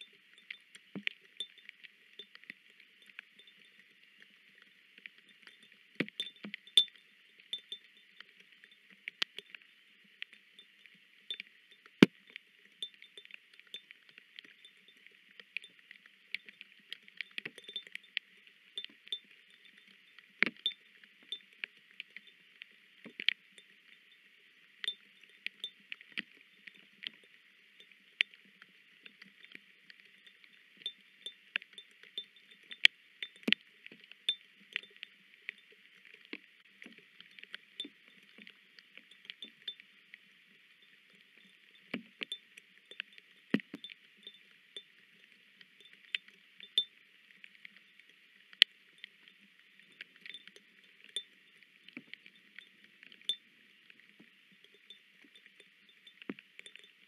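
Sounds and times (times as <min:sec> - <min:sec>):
faint steady hiss: 0:00.0 - 0:57.0
raindrops ticking on plastic: 0:00.0 - 0:57.0.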